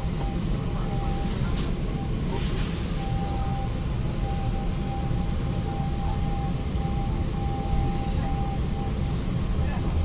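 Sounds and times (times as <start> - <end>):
train rumbling in motion: 0.0 - 10.0.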